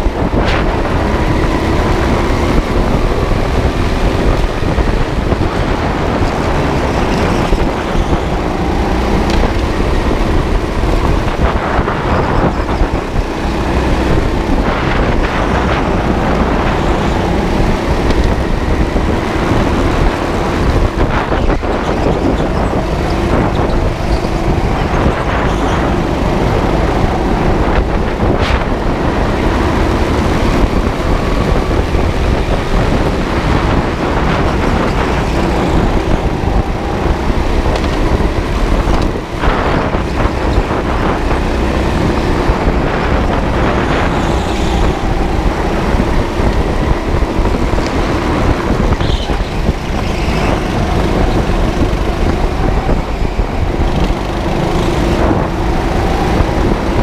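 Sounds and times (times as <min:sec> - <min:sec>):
go-kart engine running: 0:00.0 - 0:57.0
wind noise on microphone: 0:00.0 - 0:57.0.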